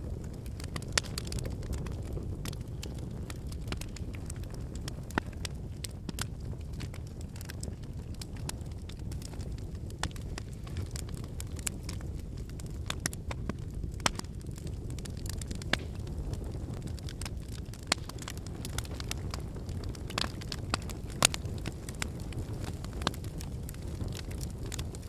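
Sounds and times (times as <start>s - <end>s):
campfire flames rushing: 0.0s - 25.0s
logs crackling and popping: 0.0s - 25.0s.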